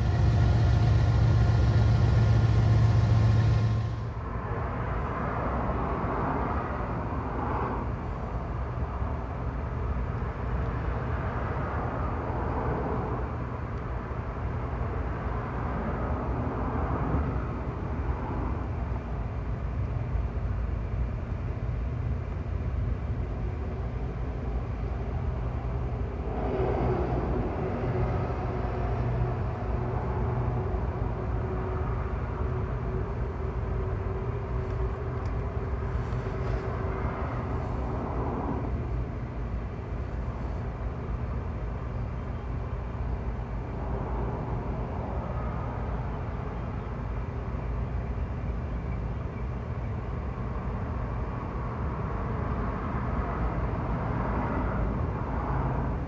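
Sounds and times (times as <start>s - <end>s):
diesel locomotive rumble: 0.0s - 56.0s.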